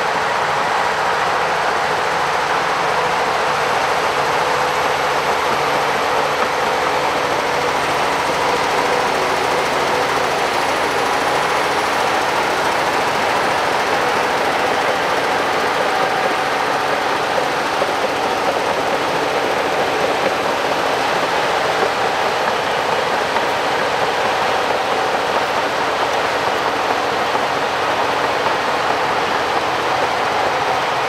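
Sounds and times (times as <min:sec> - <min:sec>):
diesel engine running under load: 0:00.0 - 0:31.0
steel tracks clattering: 0:00.0 - 0:31.0.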